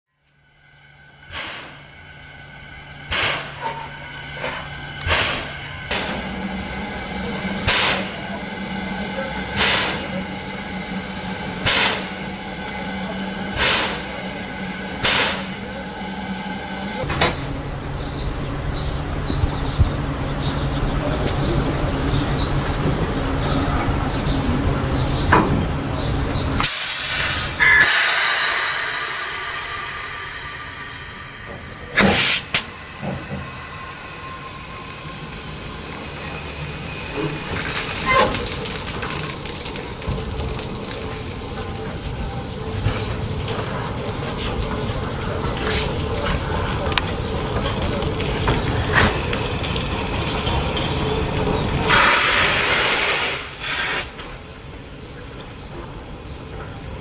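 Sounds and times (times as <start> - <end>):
steam locomotive hissing: 0.6 - 57.0.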